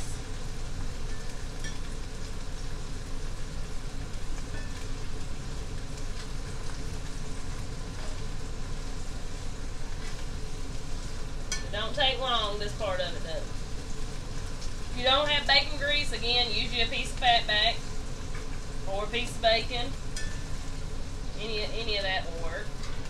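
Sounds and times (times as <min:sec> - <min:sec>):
greens sizzling in a skillet: 0:00.0 - 0:23.0.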